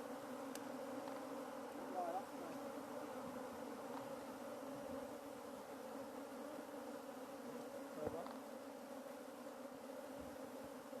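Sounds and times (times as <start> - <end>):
bee swarm buzzing: 0.0 - 11.0.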